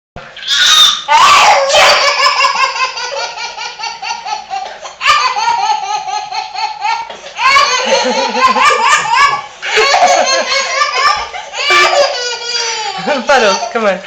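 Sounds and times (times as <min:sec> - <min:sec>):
young child laughing: 0:00.5 - 0:13.2.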